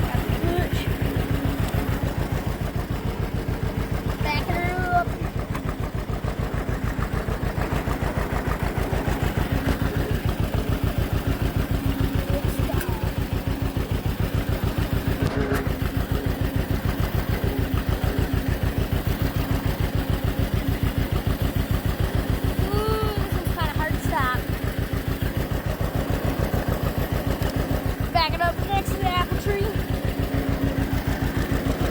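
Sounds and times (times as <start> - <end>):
tractor engine putt-putting: 0.0 - 31.9.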